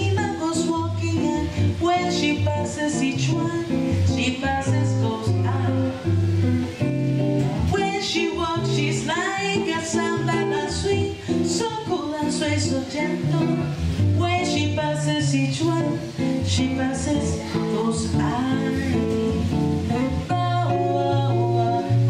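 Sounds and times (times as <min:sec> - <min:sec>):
plucked acoustic guitar: 0:00.0 - 0:22.0
woman singing into a microphone: 0:00.0 - 0:22.0.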